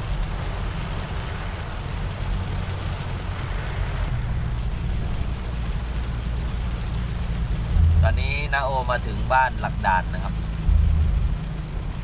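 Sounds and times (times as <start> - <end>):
car engine and tyres on wet road: 0.0 - 12.0
rain hitting a car: 0.0 - 12.0.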